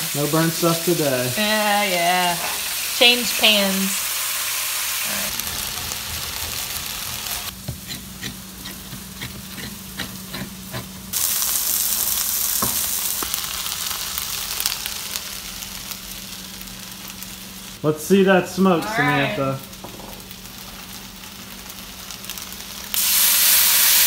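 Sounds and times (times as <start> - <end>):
fish sizzling in frying pan: 0.0 - 17.8, 18.6 - 24.0.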